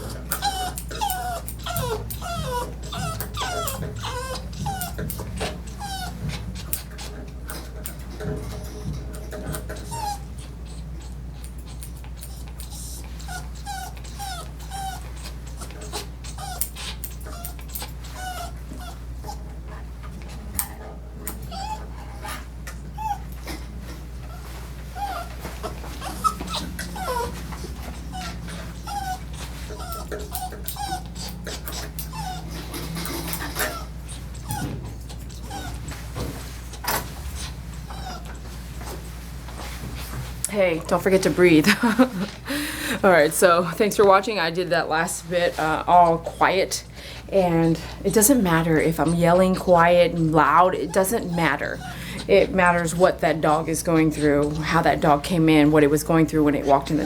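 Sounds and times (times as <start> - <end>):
dog whimpering: 0.0 - 39.0, 41.0 - 57.0
steady low hum: 0.0 - 57.0.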